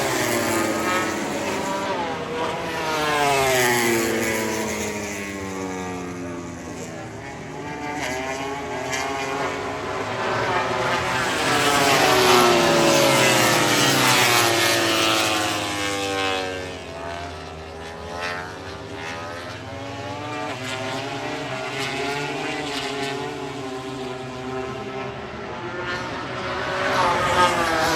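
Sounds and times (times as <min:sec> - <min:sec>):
racing motorcycle passing: 0:00.0 - 0:27.9.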